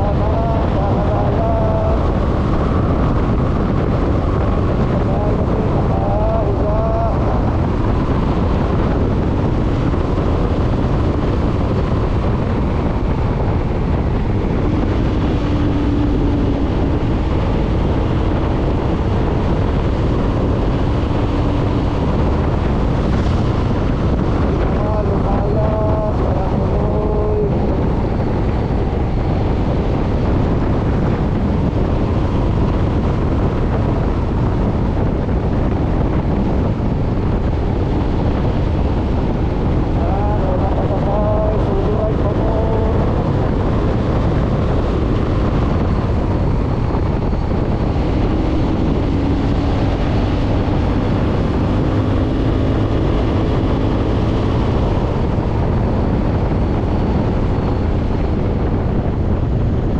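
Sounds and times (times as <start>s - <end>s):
motorcycle engine: 0.0s - 55.9s
wind rushing over microphone: 0.0s - 59.9s.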